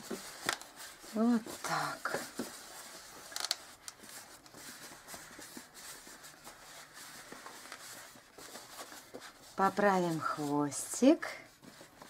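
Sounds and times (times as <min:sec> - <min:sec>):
gloved hands rubbing balloons: 0:00.0 - 0:12.0.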